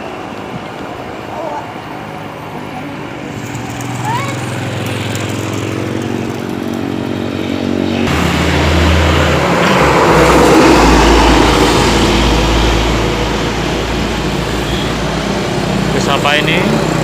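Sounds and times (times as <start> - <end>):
heavy vehicle passing close: 0.0 - 17.0
steady engine hum: 0.0 - 17.0.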